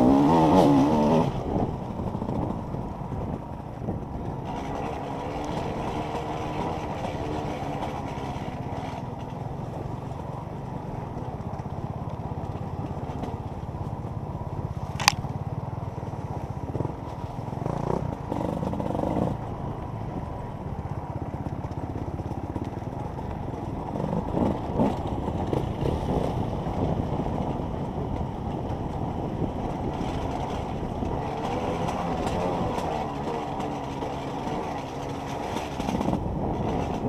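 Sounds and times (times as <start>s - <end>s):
muffled motorcycle engine running: 0.0s - 37.0s
motorcycle knocks and rattles: 0.1s - 19.5s, 20.9s - 37.0s.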